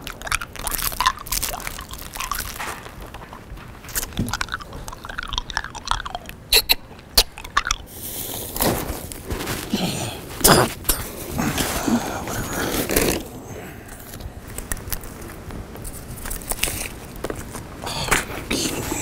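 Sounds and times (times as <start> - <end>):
person crunching a snack: 0.0 - 19.0.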